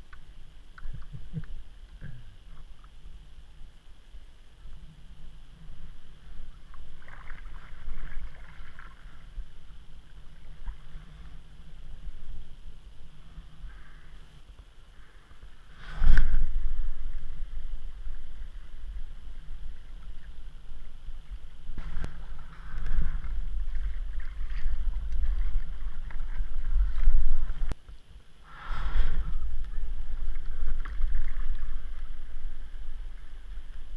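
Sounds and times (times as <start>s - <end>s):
water sloshing at hull: 0.1s - 28.1s, 28.7s - 33.9s.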